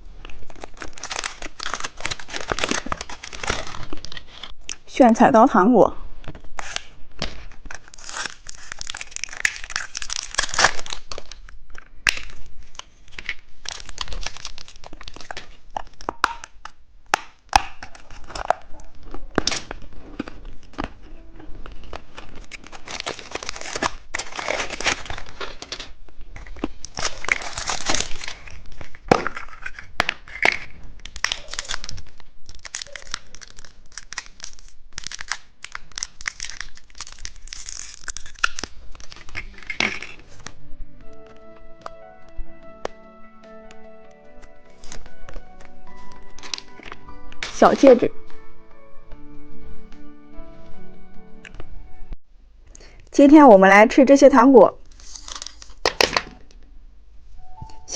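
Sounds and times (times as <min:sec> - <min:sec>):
plastic wrappers crinkling: 0:00.0 - 0:05.2, 0:06.2 - 0:48.9, 0:54.8 - 0:56.6.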